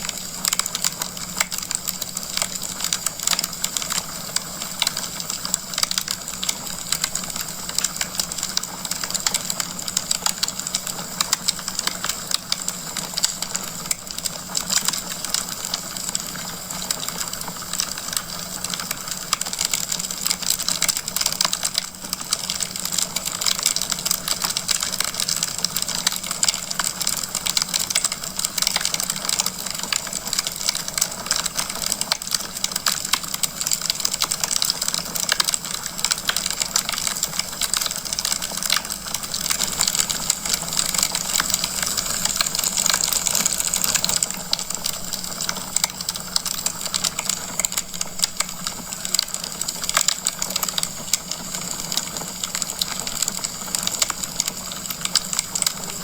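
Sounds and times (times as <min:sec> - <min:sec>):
logs crackling in a fireplace: 0:00.0 - 0:56.0.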